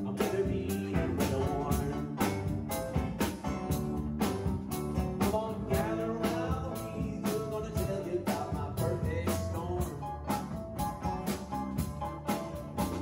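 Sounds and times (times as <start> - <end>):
live band playing country-rock: 0.0 - 13.0.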